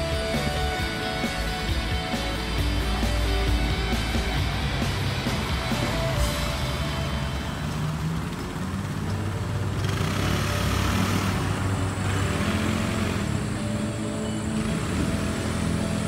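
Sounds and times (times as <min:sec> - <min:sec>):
car engines running slowly: 0:00.0 - 0:16.0.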